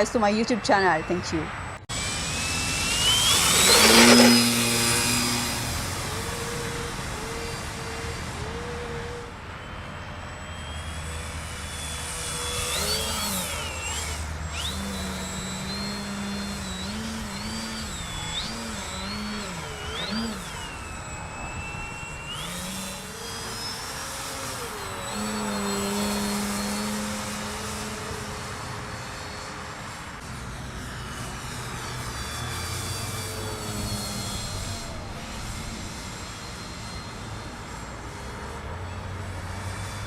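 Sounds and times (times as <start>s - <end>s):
model plane motor whine: 0.0s - 40.0s.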